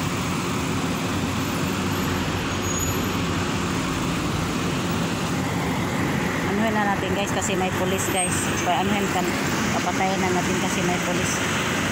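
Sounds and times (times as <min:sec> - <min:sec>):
car engines humming: 0:00.0 - 0:11.9
city street traffic: 0:00.0 - 0:11.9.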